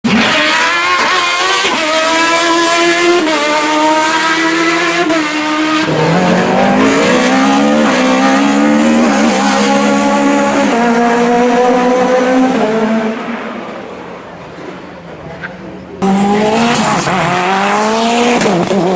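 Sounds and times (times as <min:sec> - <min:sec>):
racing car engine at full throttle: 0:00.0 - 0:18.9.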